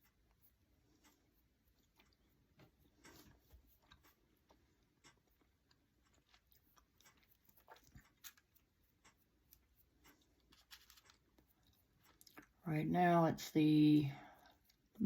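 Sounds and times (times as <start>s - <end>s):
paintbrush tapping and scratching: 0.0s - 12.6s.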